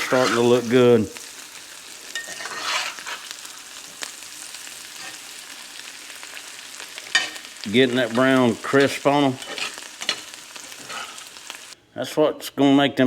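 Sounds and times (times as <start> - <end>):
potatoes sizzling in grease: 0.0 - 11.8.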